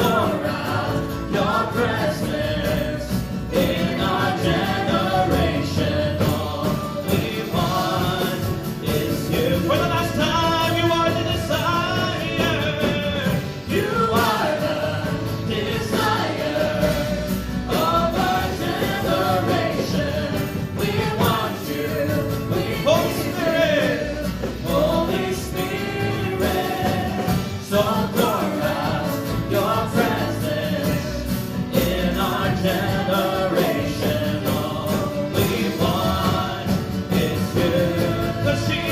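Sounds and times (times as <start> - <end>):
band accompaniment: 0.0 - 38.9
voices singing worship song: 0.0 - 38.9.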